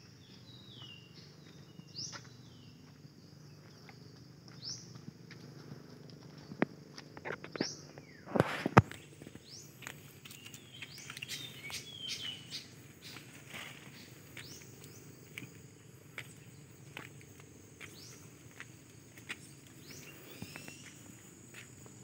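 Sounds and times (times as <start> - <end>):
birds chirping: 0.0 - 22.0
high insect drone: 0.0 - 22.0
footsteps on concrete: 0.3 - 22.0.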